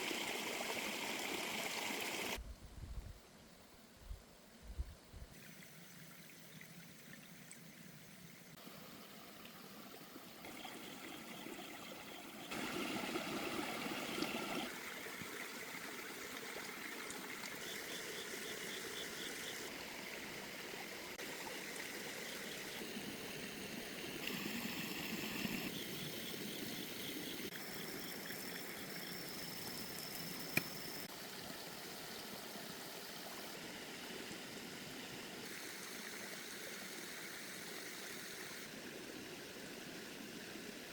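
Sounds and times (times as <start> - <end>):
stream water trickling: 0.0 - 2.4, 5.3 - 40.9.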